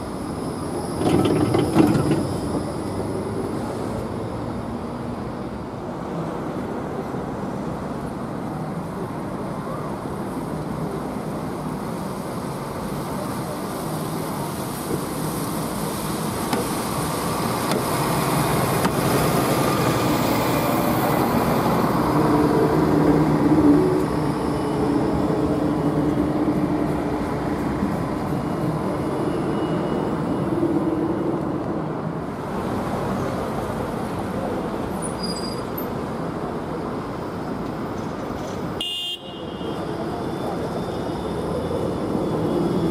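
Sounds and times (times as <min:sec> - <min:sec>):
street traffic: 0:00.0 - 0:42.9
tram passing on track: 0:00.0 - 0:42.9.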